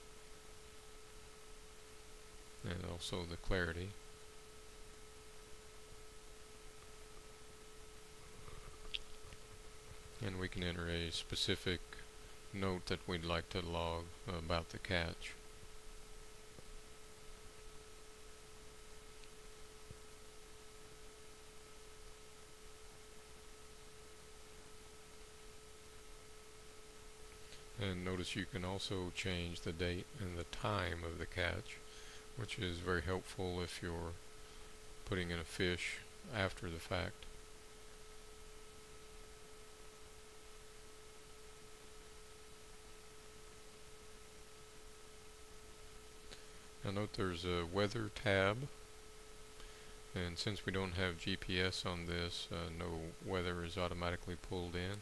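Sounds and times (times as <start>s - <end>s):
faint steady hum: 0.0s - 55.0s
low hiss: 0.0s - 55.0s.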